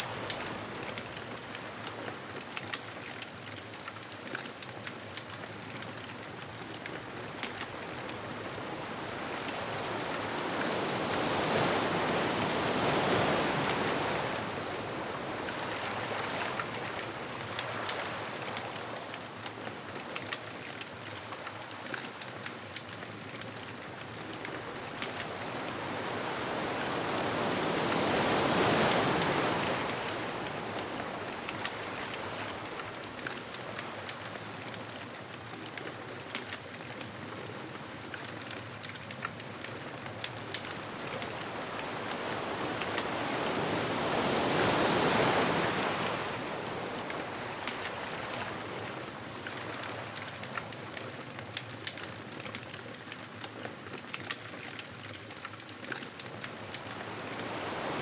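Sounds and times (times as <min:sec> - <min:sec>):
ocean waves on beach: 0:00.0 - 0:58.0
bonfire crackling: 0:00.1 - 0:58.0.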